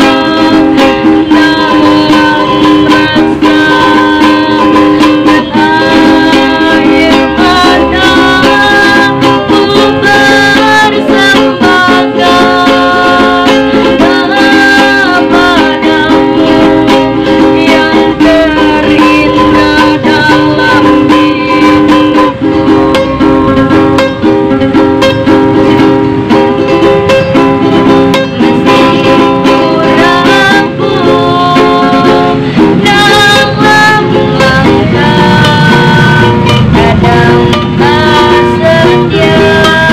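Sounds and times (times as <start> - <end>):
girl singing: 0.0 - 24.3, 27.6 - 39.9
ukulele strumming: 0.0 - 39.9.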